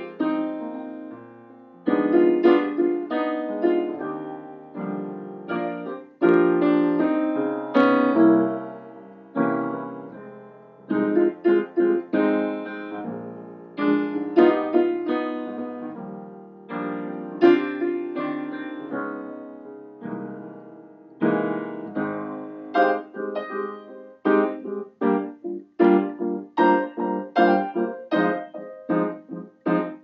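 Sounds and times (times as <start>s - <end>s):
solo grand piano: 0.0s - 30.0s.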